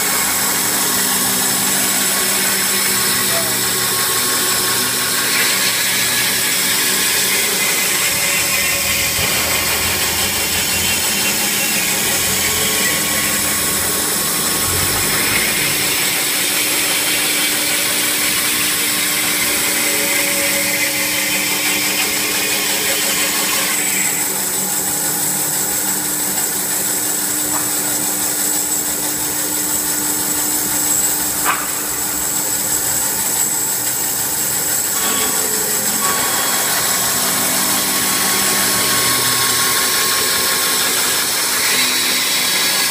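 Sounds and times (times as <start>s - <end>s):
band saw cutting wood: 0.0s - 42.9s.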